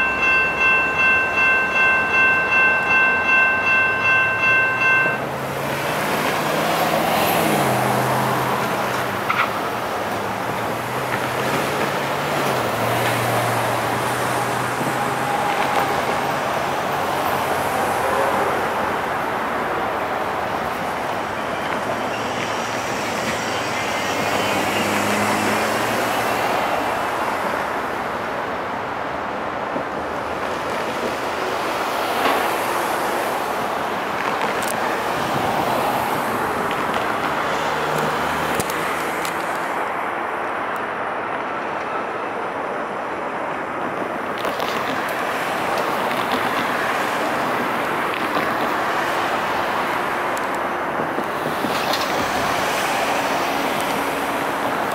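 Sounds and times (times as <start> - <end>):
cars passing: 0.0 - 54.9.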